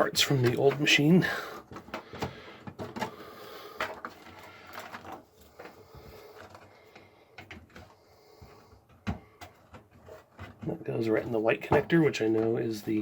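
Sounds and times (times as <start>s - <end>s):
plastic cable clicks and rustles: 1.6s - 13.0s.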